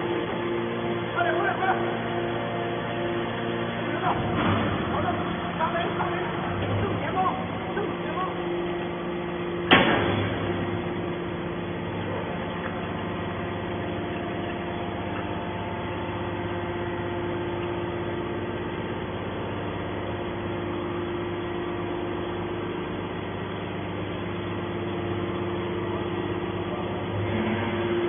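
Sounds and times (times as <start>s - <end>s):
machine motor humming: 0.0s - 28.0s.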